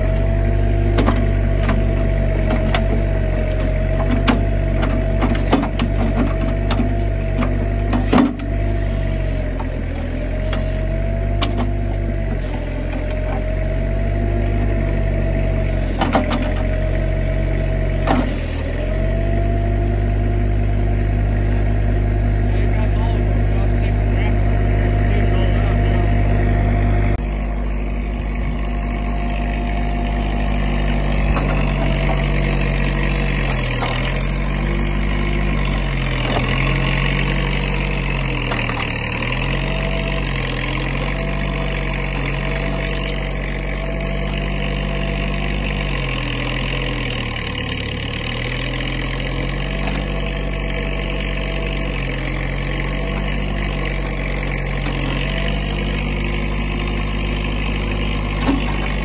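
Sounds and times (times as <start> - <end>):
loader engine running: 0.0 - 59.0.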